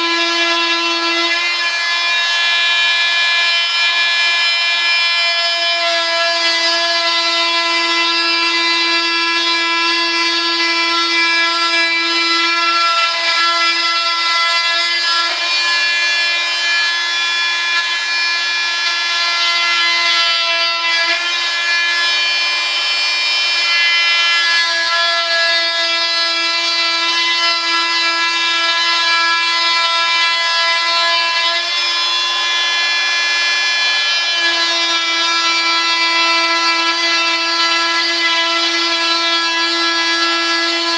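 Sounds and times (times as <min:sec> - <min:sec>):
oscillating saw buzzing: 0:00.0 - 0:40.9.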